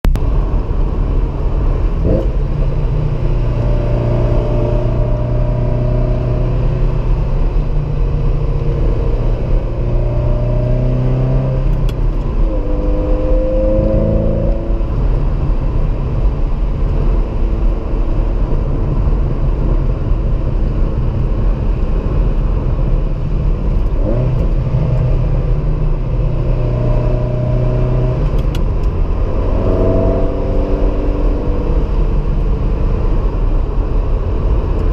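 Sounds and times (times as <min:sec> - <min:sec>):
road noise: 0:00.0 - 0:34.9
car engine revving: 0:00.1 - 0:34.9.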